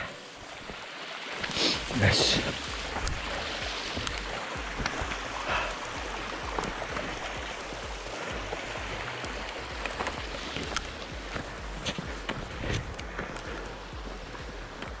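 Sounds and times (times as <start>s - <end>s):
steady rushing noise: 0.0s - 15.0s
footsteps crunching in snow: 0.4s - 15.0s.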